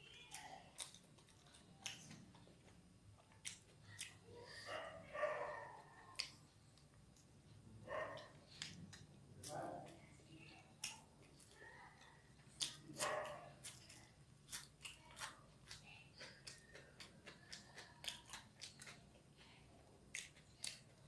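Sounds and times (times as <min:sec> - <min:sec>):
crunching and chewing: 0:00.0 - 0:07.3, 0:08.0 - 0:21.0.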